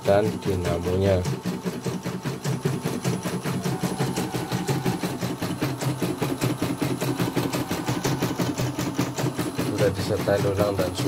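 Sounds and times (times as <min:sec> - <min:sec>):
embroidery machine needle clatter: 0:00.0 - 0:11.0.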